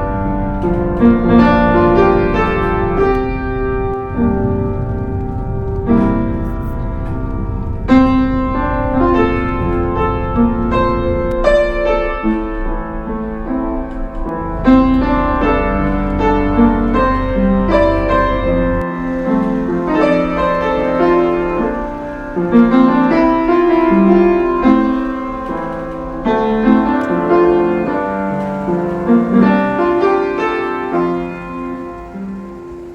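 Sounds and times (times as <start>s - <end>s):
low steady rumble: 0.0s - 32.9s
piano music: 0.0s - 32.9s.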